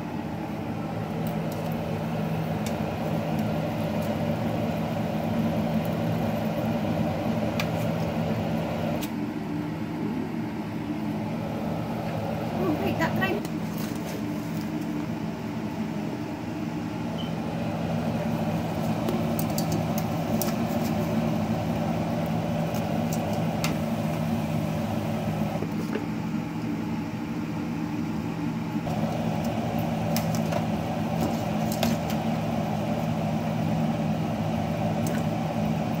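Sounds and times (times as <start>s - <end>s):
appliance motor hum: 0.0s - 36.0s.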